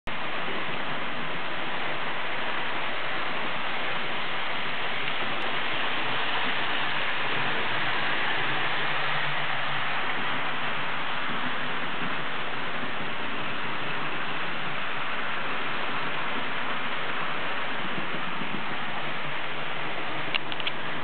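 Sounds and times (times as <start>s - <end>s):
model trains whirring on track: 0.2s - 21.0s.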